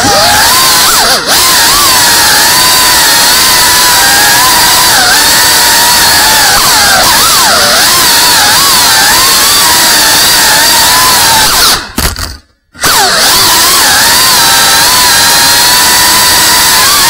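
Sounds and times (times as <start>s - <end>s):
small drone motors whining: 0.0s - 11.8s, 12.8s - 17.0s.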